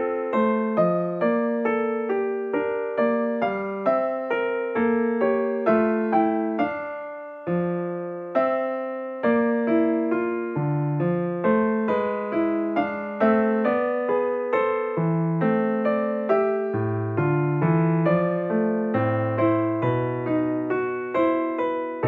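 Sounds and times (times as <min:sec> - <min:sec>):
solo piano piece: 0:00.0 - 0:22.0.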